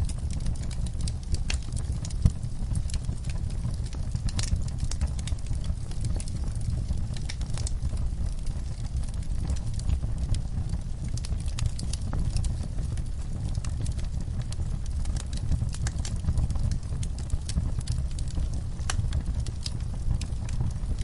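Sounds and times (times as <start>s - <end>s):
fire crackles and pops: 0.0s - 21.0s
flames rumbling: 0.0s - 21.0s.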